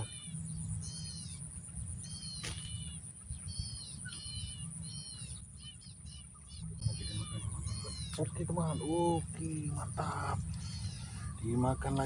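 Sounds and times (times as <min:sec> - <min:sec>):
birds chirping: 0:00.0 - 0:12.0
steady high-pitched whine: 0:00.0 - 0:12.0.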